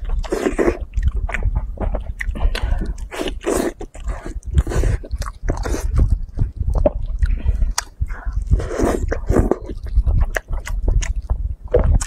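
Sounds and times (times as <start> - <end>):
person chewing meat: 0.0 - 12.0.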